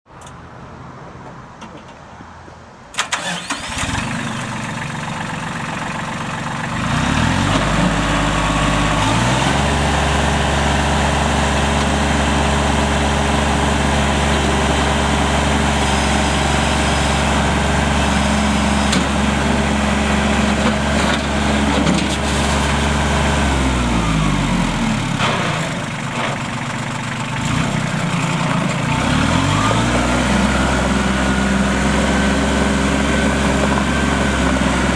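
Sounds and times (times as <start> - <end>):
tractor diesel engine revving: 3.0 - 34.9.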